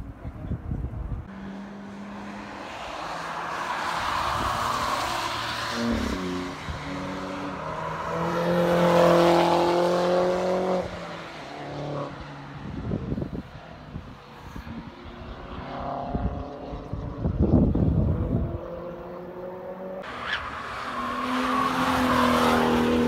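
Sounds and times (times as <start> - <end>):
race cars passing: 0.8 - 23.0.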